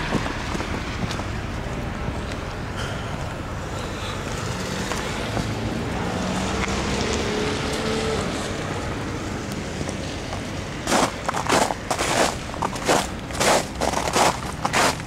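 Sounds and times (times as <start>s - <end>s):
passing car hum: 0.0s - 15.0s
tyres rushing on wet road: 0.0s - 15.0s.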